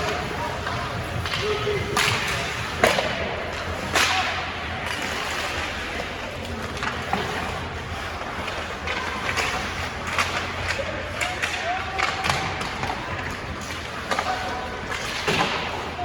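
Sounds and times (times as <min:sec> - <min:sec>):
hockey sticks cracking on puck: 0:00.0 - 0:16.0
ice rink background noise: 0:00.0 - 0:16.0.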